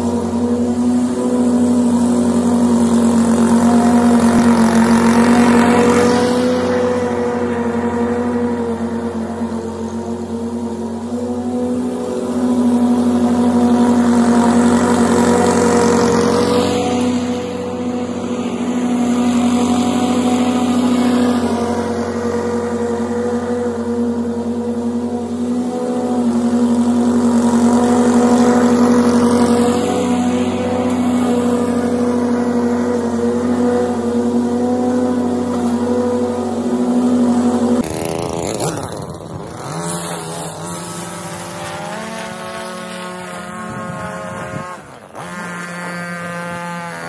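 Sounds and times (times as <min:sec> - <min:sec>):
lawn mower running: 0:00.0 - 0:47.0.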